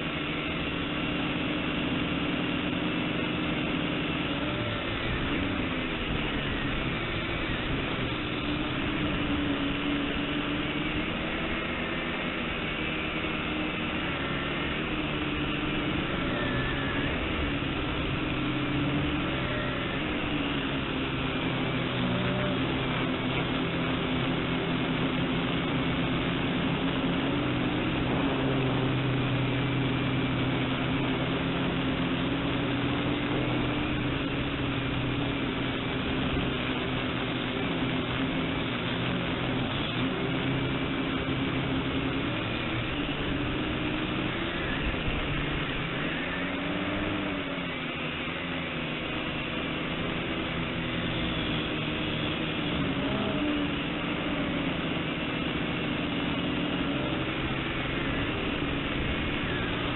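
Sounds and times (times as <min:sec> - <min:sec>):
quadcopter propellers buzzing: 0:00.0 - 0:59.9.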